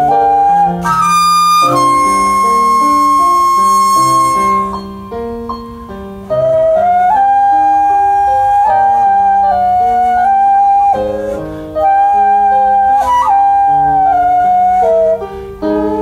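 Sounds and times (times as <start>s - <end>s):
bamboo flute melody: 0.0s - 16.0s.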